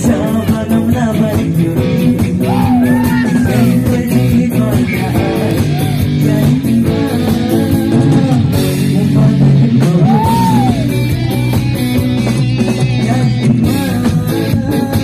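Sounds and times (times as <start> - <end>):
man singing into microphone: 0.0 - 11.0, 12.9 - 15.0
live rock band playing: 0.0 - 15.0.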